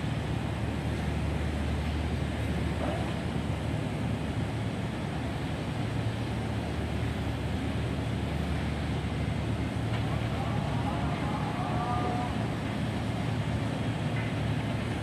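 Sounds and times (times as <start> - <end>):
ferry engines droning: 0.0 - 15.0
rushing water and wind: 0.0 - 15.0.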